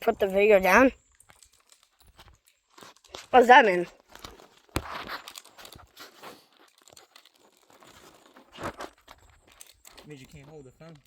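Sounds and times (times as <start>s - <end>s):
phone handling rustling and scraping: 1.2s - 10.6s.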